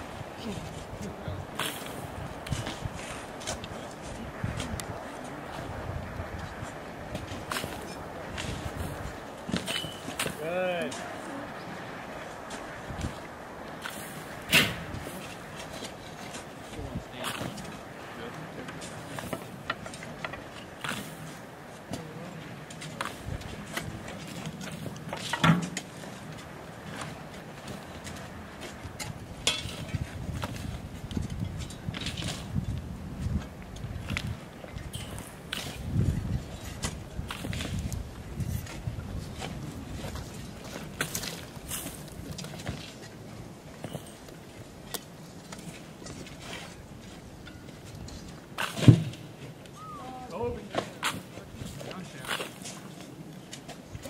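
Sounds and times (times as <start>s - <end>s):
hand tools scraping in dirt: 1.5s - 4.8s, 6.6s - 11.1s, 12.5s - 21.9s, 22.7s - 32.7s, 33.3s - 49.7s, 50.6s - 54.0s.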